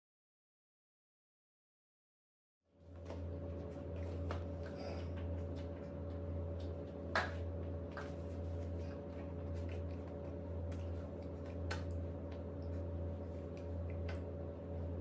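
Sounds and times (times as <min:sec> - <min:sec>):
steady low hum: 0:02.7 - 0:15.0.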